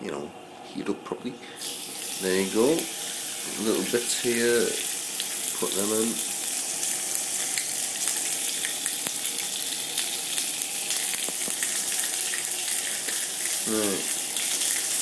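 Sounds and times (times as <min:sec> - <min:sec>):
chicken sizzling on griddle pan: 0:01.8 - 0:15.0.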